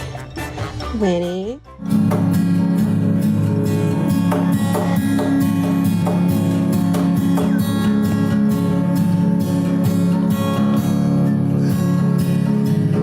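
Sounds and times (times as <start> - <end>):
strummed acoustic guitar: 1.8 - 13.0.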